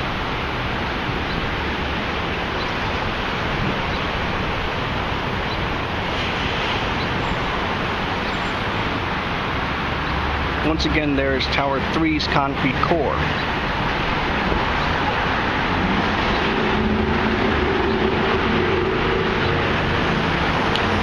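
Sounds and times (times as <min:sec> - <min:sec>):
wind noise on microphone: 0:00.0 - 0:11.1, 0:13.3 - 0:21.0.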